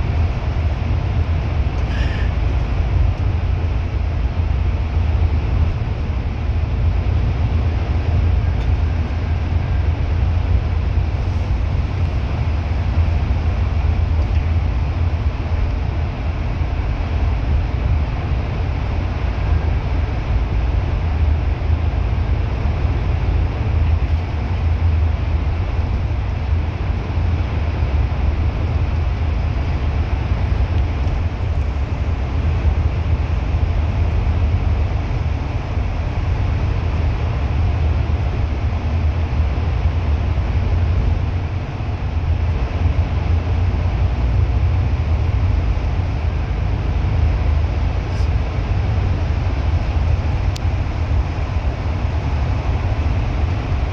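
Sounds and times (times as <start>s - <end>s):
bus engine and road noise: 0.0s - 53.9s.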